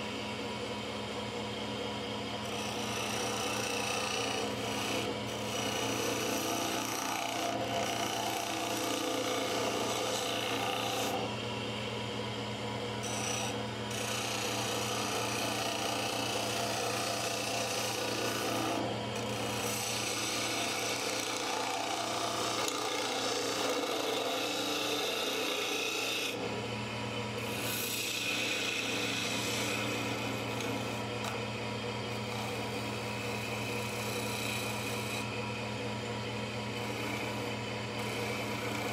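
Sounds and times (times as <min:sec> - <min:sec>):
lathe motor hum: 0:00.0 - 0:38.9
wood lathe gouge scraping: 0:02.4 - 0:11.3, 0:13.0 - 0:26.4, 0:27.4 - 0:31.4, 0:32.1 - 0:35.3, 0:36.8 - 0:38.9.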